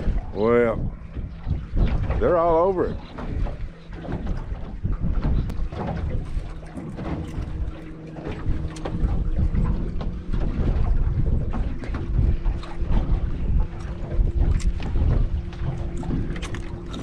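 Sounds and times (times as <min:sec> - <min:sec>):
low hum: 0:00.0 - 0:17.0
water splashes: 0:00.0 - 0:17.0
wind buffeting microphone: 0:00.0 - 0:17.0.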